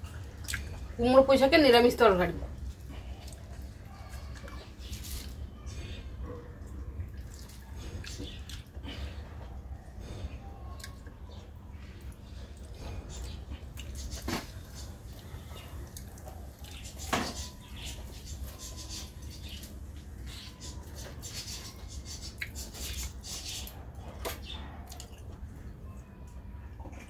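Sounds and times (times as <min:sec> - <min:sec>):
chewing and wet mouth sounds: 0:00.0 - 0:01.0, 0:02.5 - 0:21.4, 0:22.1 - 0:27.0.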